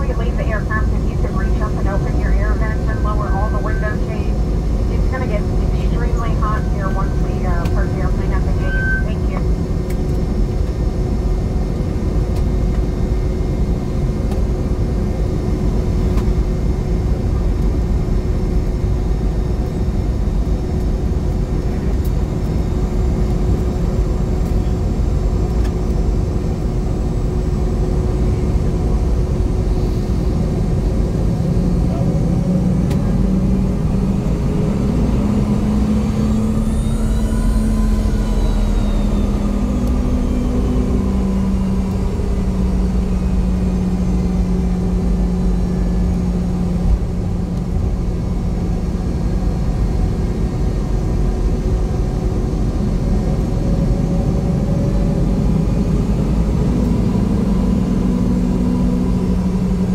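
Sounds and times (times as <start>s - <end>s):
jet cabin rumble: 0.0s - 59.9s
jet engine whine: 0.0s - 59.9s.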